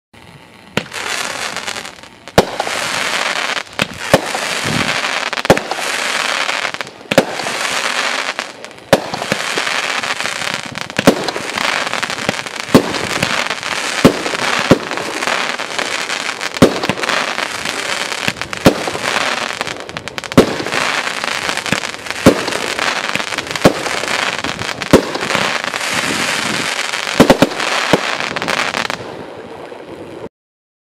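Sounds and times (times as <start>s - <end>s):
firework crackle: 0.2s - 30.3s
firework bangs: 0.7s - 29.2s.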